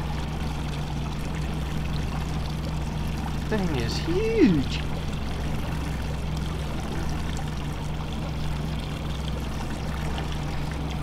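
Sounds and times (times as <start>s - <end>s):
boat motor running: 0.0s - 11.0s
water noise: 0.0s - 11.0s.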